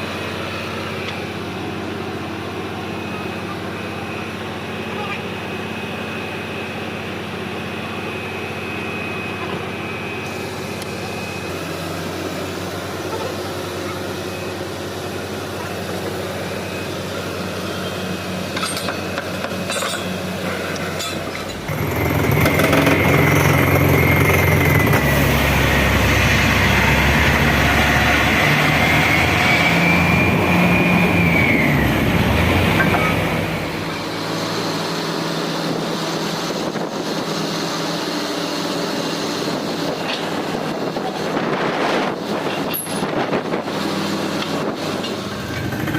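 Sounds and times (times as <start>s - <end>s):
drilling rig engine drone: 0.0s - 45.9s
high wavering whine: 0.0s - 45.9s.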